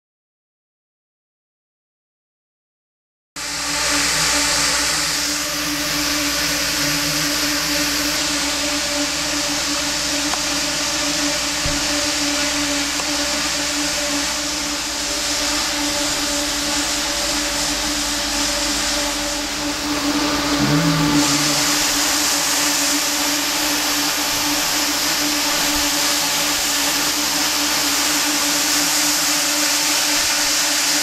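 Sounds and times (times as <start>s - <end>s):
loud airy hiss: 3.4s - 31.0s
machine whir: 3.4s - 31.0s.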